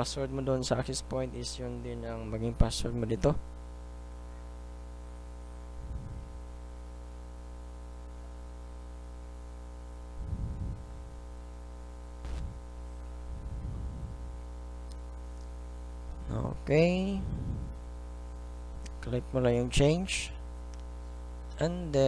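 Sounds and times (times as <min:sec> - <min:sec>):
electrical hum with buzz: 0:00.0 - 0:22.0.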